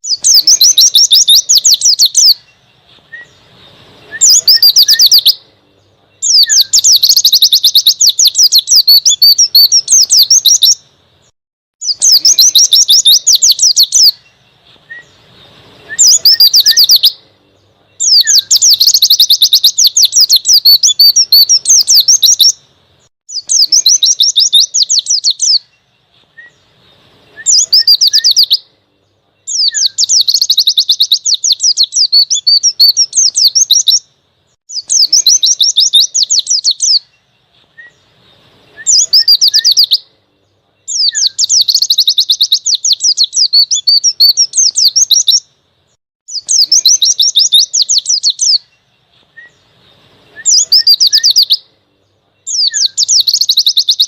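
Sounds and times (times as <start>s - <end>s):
bird twittering song: 0.0s - 54.0s.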